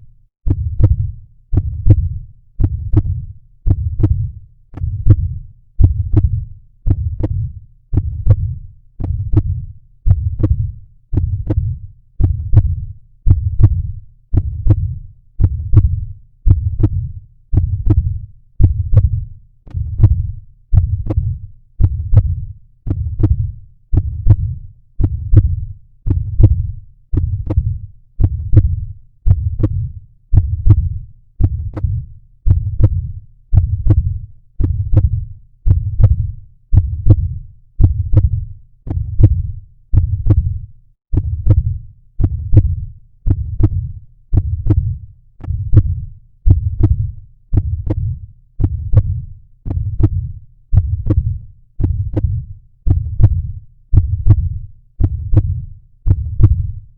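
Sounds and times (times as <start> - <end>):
heartbeat double thump: 0.5 - 56.9.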